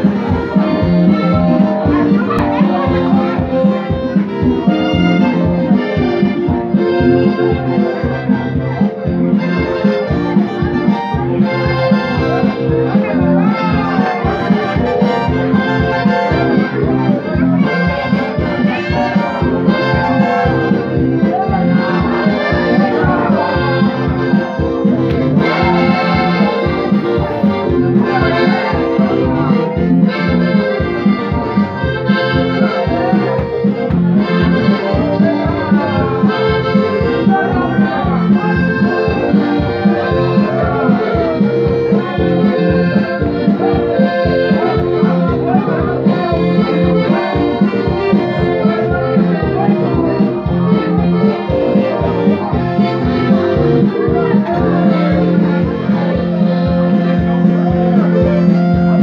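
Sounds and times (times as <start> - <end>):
accordion dance music: 0.0 - 59.0.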